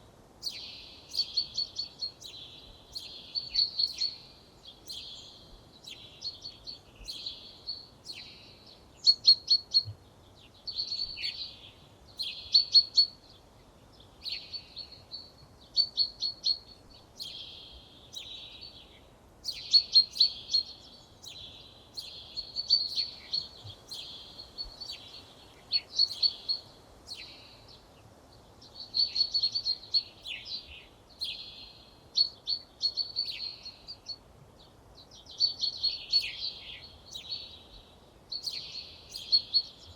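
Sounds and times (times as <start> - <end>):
faint background hiss: 0.0 - 39.9
songbirds singing: 0.0 - 39.9.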